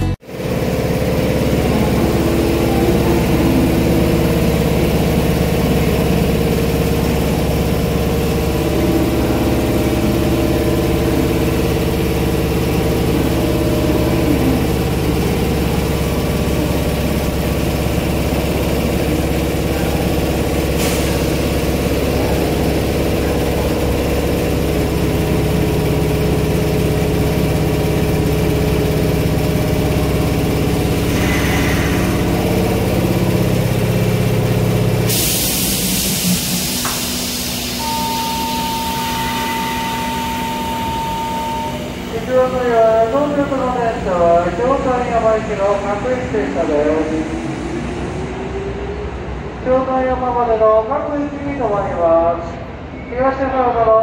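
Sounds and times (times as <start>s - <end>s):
low rumble: 0.0s - 49.8s
train machinery hum: 0.0s - 54.0s.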